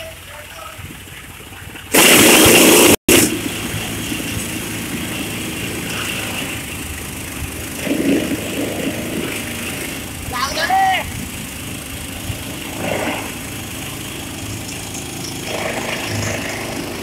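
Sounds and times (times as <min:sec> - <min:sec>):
engine running steadily: 0:00.0 - 0:17.0
loud rushing noise: 0:01.9 - 0:17.0.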